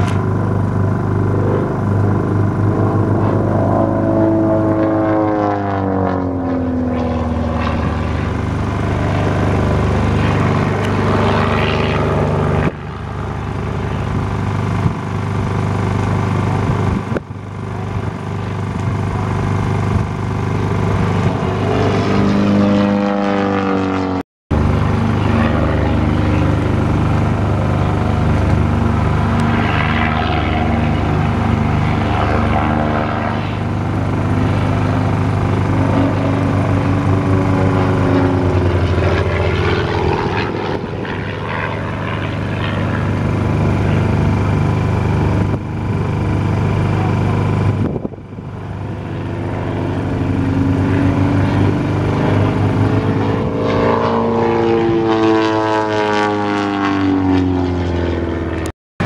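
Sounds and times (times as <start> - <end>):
propeller plane engine: 0.0 - 58.8.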